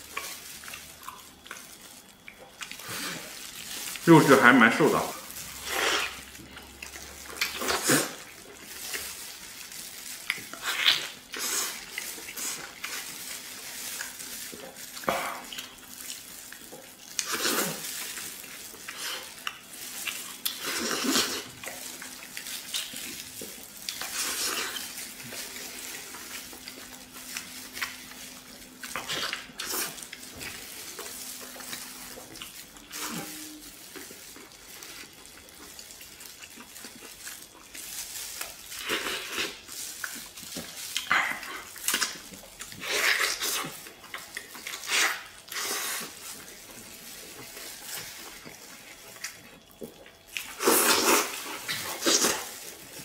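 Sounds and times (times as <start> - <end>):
person chewing wetly: 0.0 - 4.4, 5.2 - 53.0.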